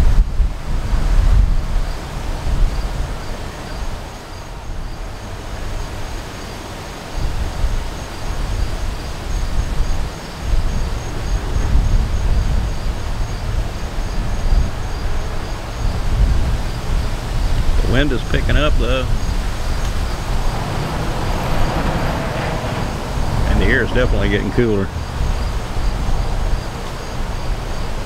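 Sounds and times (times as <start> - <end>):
wind buffeting microphone: 0.0 - 28.0
insects chirping: 0.6 - 28.0.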